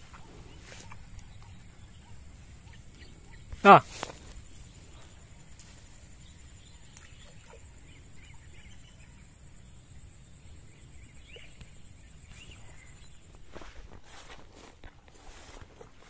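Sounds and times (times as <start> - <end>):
faint bird chirps: 0.0 - 13.8.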